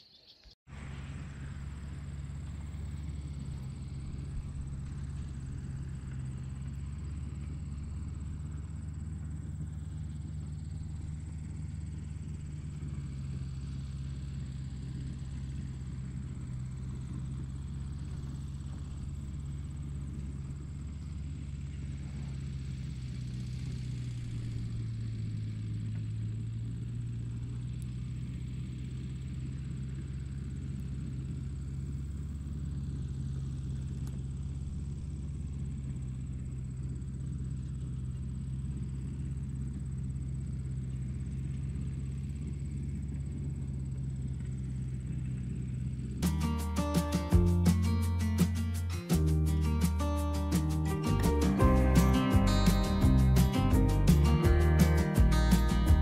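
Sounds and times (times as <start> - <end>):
car engine idling: 0.7 - 56.0.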